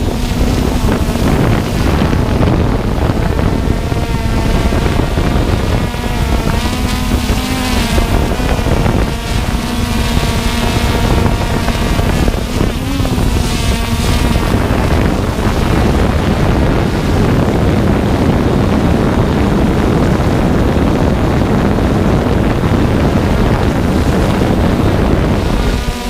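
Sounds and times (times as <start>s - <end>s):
quadcopter rotors buzzing: 0.0s - 26.0s
wind buffeting microphone: 0.0s - 26.0s.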